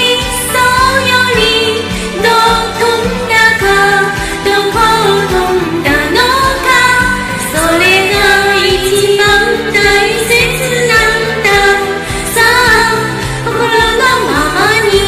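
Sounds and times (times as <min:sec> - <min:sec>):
instrumental backing: 0:00.0 - 0:15.0
person singing pop ballad: 0:00.0 - 0:15.0.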